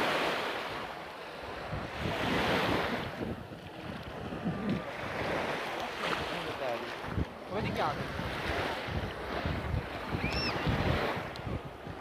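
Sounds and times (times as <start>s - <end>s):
small waves washing in: 0.0s - 12.0s
wind buffeting microphone: 0.7s - 12.0s.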